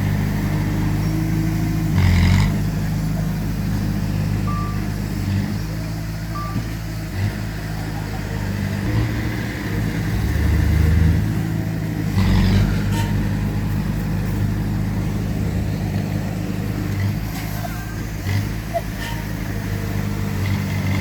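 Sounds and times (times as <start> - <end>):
heavy machinery diesel engines: 0.0 - 21.0.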